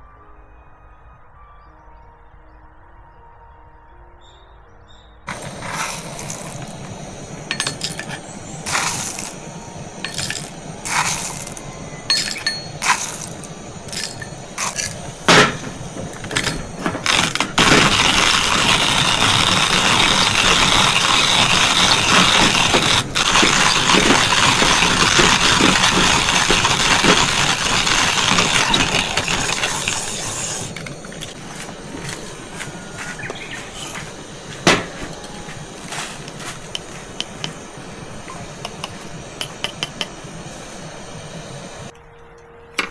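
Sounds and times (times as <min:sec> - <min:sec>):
hard objects clinking and knocking: 0:05.3 - 0:40.8
steady hiss: 0:05.3 - 0:41.9.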